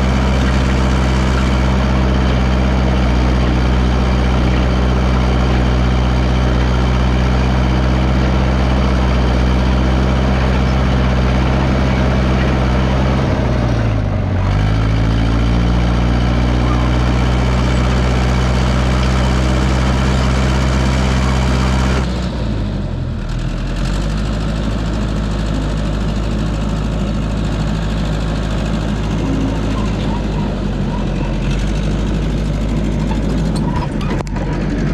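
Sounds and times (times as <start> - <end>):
dozer engine running: 0.0 - 34.9.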